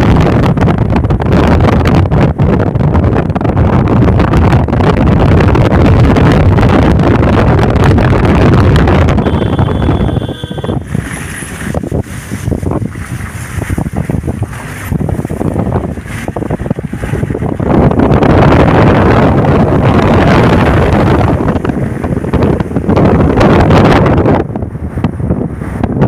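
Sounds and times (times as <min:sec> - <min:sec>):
low road rumble: 0:00.0 - 0:26.0
wind buffeting microphone: 0:00.0 - 0:26.0.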